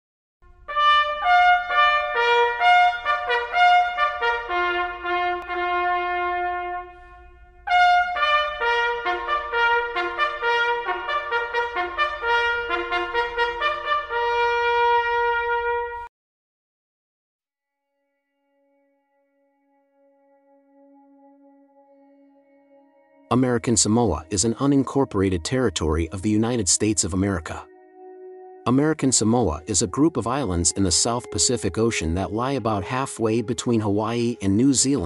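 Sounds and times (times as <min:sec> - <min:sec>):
solo brass melody: 0:00.4 - 0:16.1, 0:17.8 - 0:35.0.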